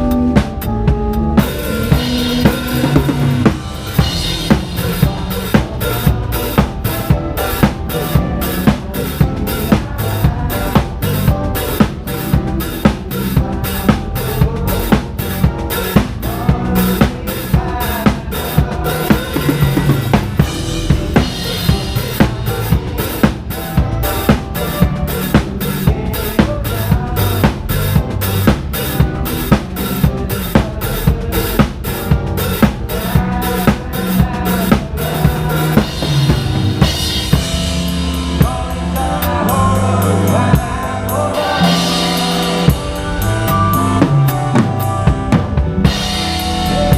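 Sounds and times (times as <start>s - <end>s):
bass drum and snare beat: 0.0s - 46.9s
live band music: 0.0s - 46.9s.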